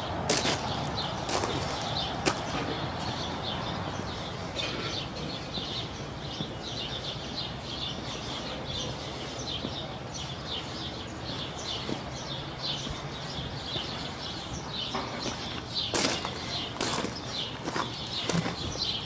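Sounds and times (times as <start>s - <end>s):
low background noise: 0.0s - 19.0s
small birds chirping: 0.0s - 19.0s.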